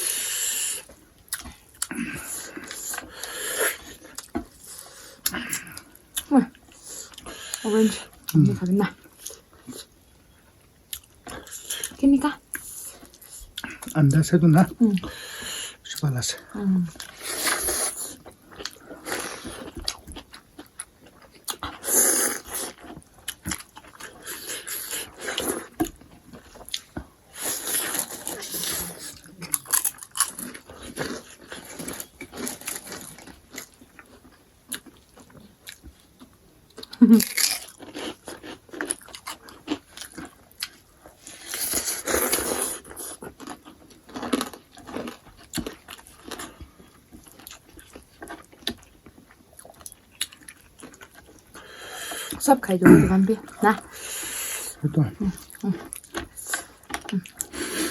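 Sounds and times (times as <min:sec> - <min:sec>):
chewing and crunching: 0:00.0 - 0:57.9.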